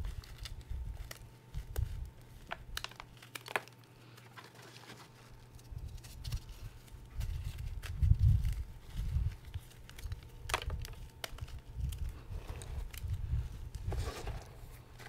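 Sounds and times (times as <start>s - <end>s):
small crackles: 0.0s - 15.0s.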